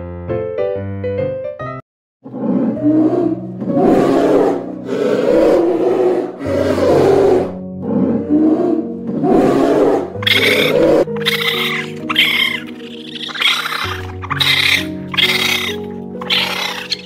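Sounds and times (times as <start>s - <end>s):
background music: 0.0s - 17.0s
polar bear growling: 2.3s - 17.0s.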